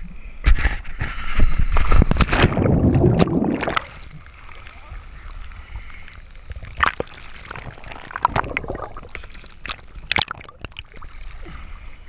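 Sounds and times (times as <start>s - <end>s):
sea water splashing: 2.1s - 12.0s.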